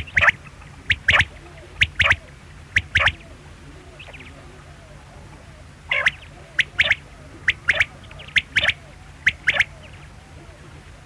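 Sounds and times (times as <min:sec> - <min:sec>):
quail calling: 0:00.0 - 0:10.6.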